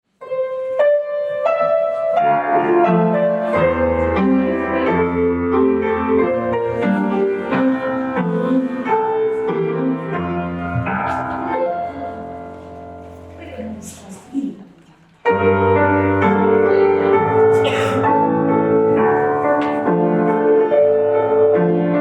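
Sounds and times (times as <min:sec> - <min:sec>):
piano music: 0:00.1 - 0:14.4, 0:15.2 - 0:22.0.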